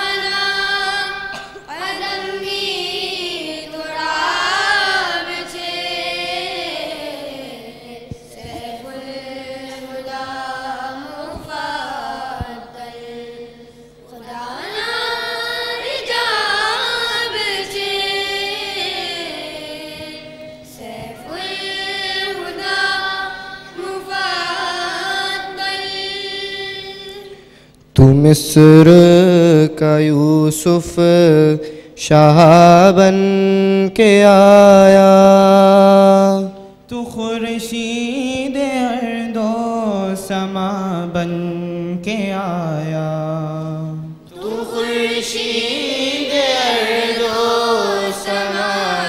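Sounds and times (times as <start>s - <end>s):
choir singing devotional song: 0.0s - 49.0s.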